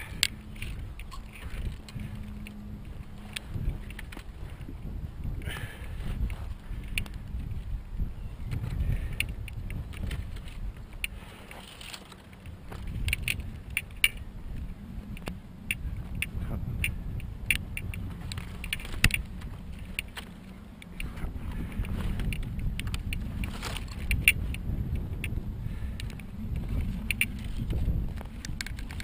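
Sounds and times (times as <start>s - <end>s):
woody cracks and creaks: 0.0s - 7.8s, 8.4s - 29.0s
brushwood being twisted and woven: 0.0s - 29.0s
low microphone rumble: 0.0s - 29.0s.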